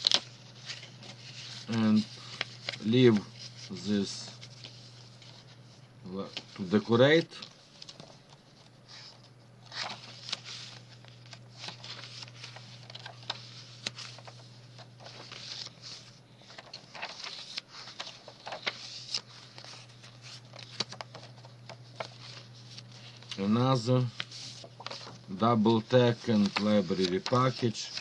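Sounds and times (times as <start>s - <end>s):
pages turning: 0.0s - 28.0s
paper and card rustling: 0.0s - 28.0s.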